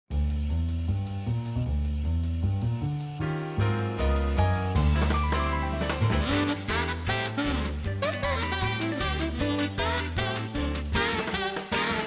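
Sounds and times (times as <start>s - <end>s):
bass line: 0.1s - 12.0s.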